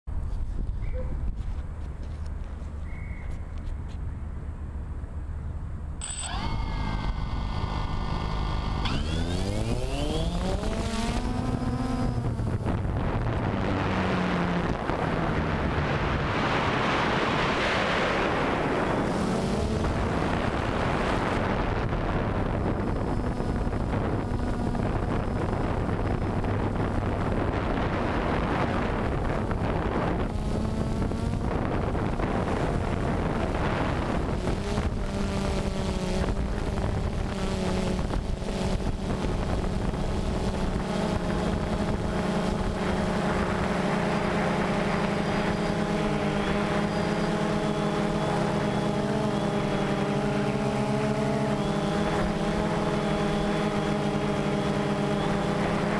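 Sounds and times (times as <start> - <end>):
drone motors whining and buzzing: 6.0 - 55.9
wind on microphone: 6.4 - 55.9.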